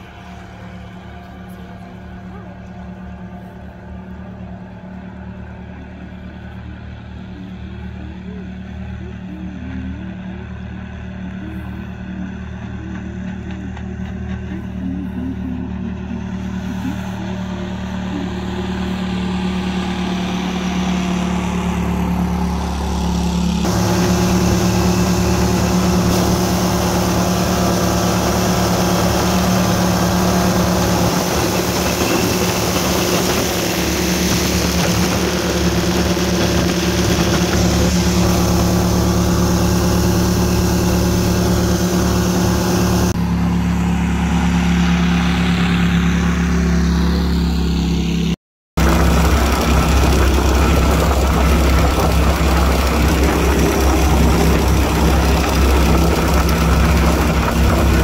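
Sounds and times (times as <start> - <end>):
boat motor running at high throttle: 0.0 - 58.0.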